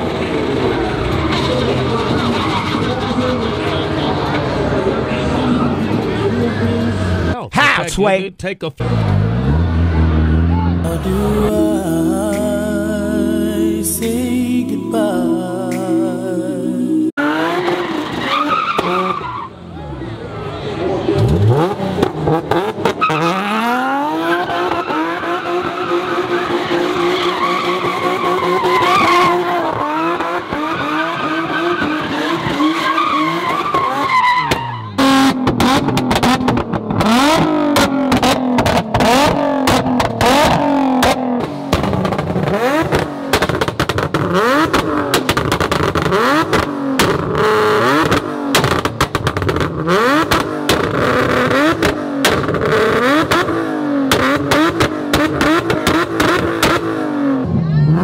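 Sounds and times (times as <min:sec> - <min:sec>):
car engine revving: 0:00.0 - 0:07.4, 0:08.8 - 0:14.5, 0:16.5 - 0:58.0
tyres skidding: 0:00.0 - 0:07.4, 0:17.2 - 0:58.0.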